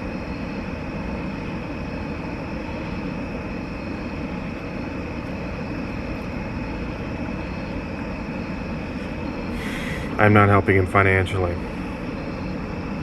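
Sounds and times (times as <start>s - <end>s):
faint high whine: 0.0s - 13.0s
steady mechanical drone: 0.0s - 13.0s.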